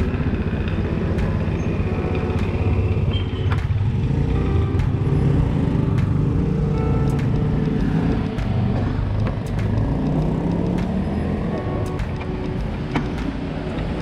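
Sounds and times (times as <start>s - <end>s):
motorcycle engine running: 0.0s - 14.0s
street traffic: 0.0s - 14.0s.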